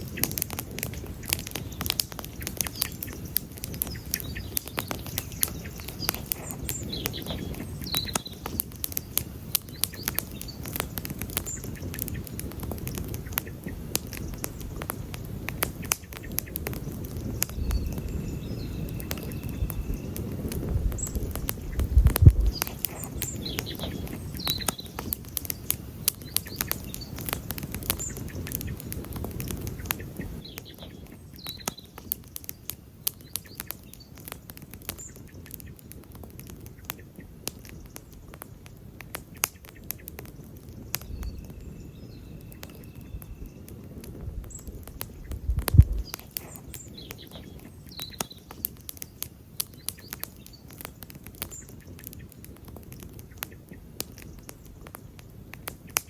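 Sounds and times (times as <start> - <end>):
campfire crackling and popping: 0.0 - 56.0
low rumble of flames: 0.0 - 56.0
faint bird chirps: 0.1 - 12.4, 15.8 - 34.2, 39.5 - 54.9.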